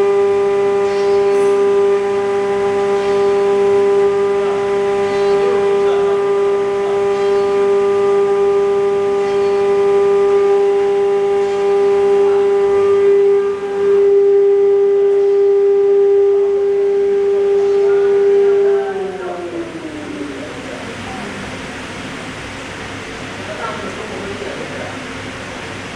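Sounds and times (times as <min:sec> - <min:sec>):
router spindle whining: 0:00.0 - 0:20.9.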